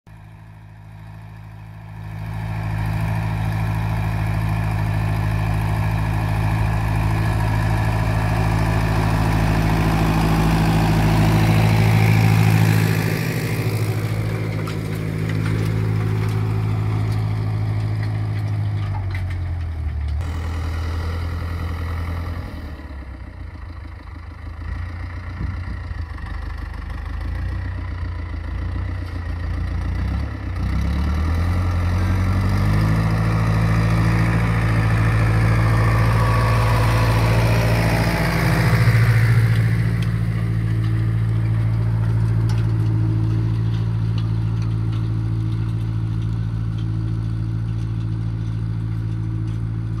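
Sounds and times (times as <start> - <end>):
tractor diesel engine under load: 0.1 - 50.0.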